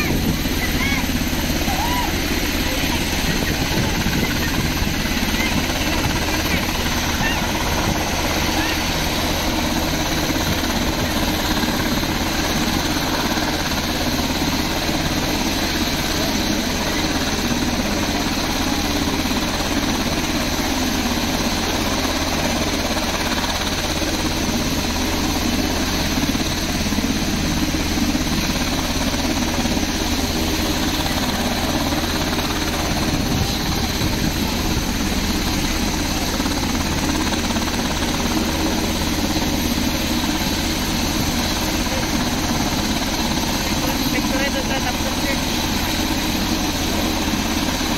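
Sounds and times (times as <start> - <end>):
helicopter engine whine: 0.0 - 47.9
low rotor drone: 0.0 - 47.9.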